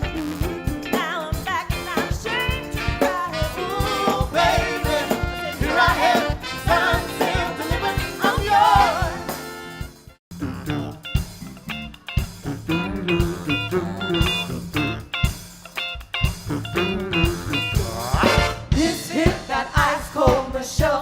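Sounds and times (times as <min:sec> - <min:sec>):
steady drum beat: 0:00.0 - 0:21.0
person singing with vibrato: 0:00.6 - 0:09.5, 0:10.4 - 0:11.7, 0:12.3 - 0:15.2, 0:16.4 - 0:21.0.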